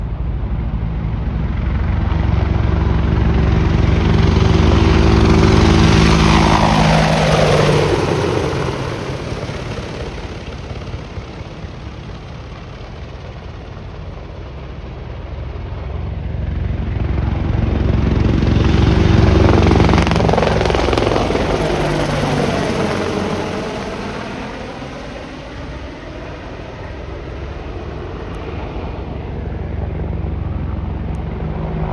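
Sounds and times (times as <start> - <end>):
helicopters flying past: 0.0 - 31.9.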